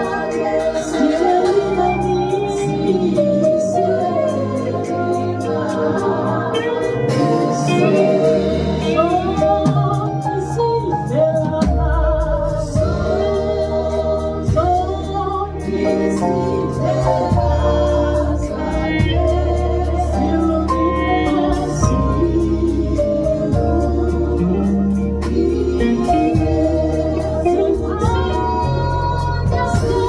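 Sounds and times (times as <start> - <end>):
church band playing gospel: 0.0 - 30.0
people singing: 0.0 - 30.0.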